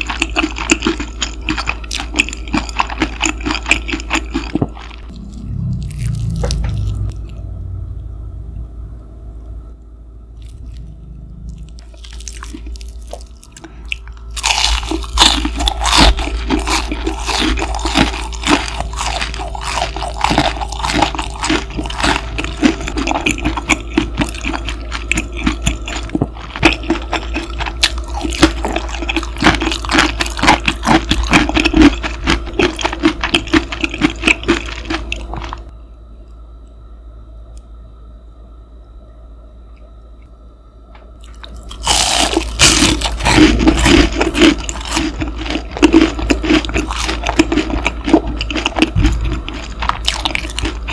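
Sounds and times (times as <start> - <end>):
crunchy food chewing: 0.0 - 7.4, 10.4 - 35.7, 40.9 - 50.9
low machine hum: 0.0 - 50.9.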